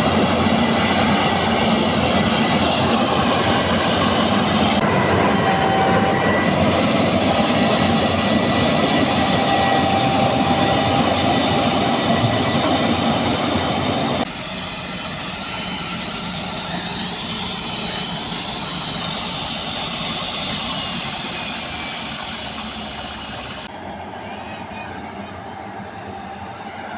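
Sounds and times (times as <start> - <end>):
high steady machine whines: 0.0 - 26.9.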